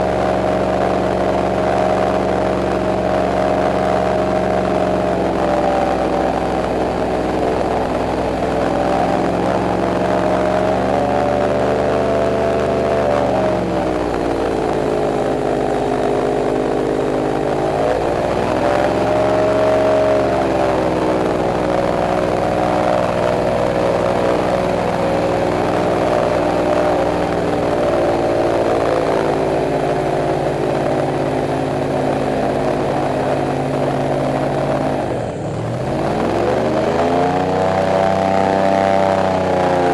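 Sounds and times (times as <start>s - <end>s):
airboat engine and propeller drone: 0.0s - 39.9s.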